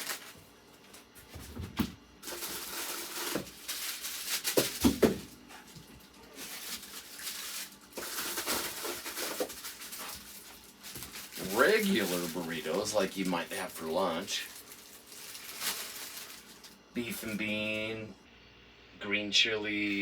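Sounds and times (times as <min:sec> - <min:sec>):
plastic packets rustling and crinkling: 0:00.0 - 0:01.2, 0:02.2 - 0:17.8.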